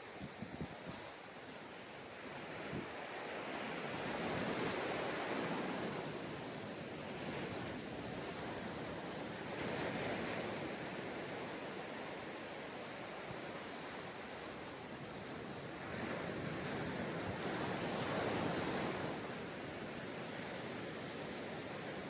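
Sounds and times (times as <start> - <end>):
ocean surf on sandy beach: 0.0 - 22.0.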